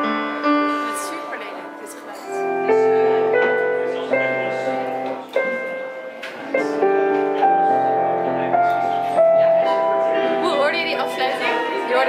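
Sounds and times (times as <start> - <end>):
slow piano chords and melody: 0.0 - 12.0.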